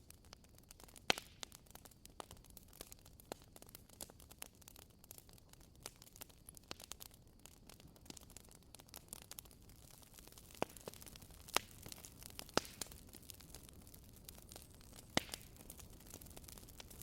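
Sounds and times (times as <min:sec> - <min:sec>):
firewood crackling: 0:00.0 - 0:17.0
loud pops of burning wood: 0:00.0 - 0:17.0.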